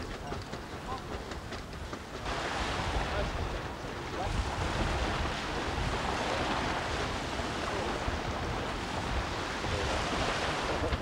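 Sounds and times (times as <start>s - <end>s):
choppy water washing: 0.0s - 11.0s
wind buffeting microphone: 0.0s - 11.0s.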